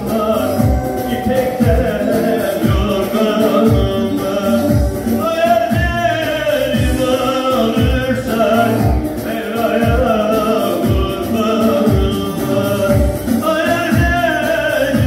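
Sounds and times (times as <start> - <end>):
low drum beat: 0.0 - 15.0
person singing: 0.0 - 15.0.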